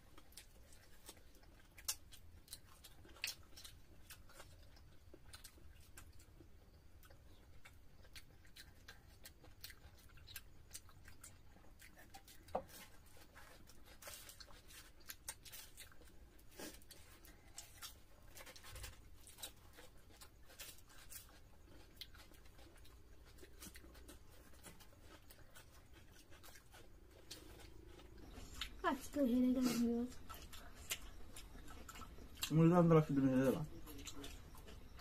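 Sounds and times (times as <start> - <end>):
chewing clicks and smacks: 0.0 - 28.8, 30.2 - 35.0
people eating by hand: 0.0 - 35.0.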